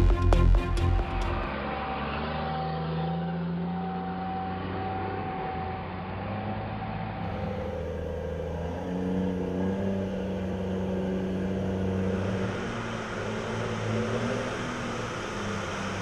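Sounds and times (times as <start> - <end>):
heavy vehicle engines running: 0.0 - 16.0.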